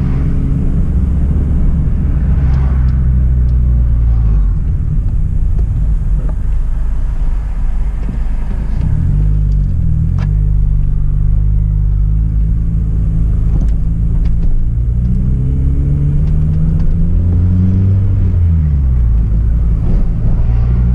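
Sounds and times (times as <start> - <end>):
car engine accelerating: 0.0 - 20.9.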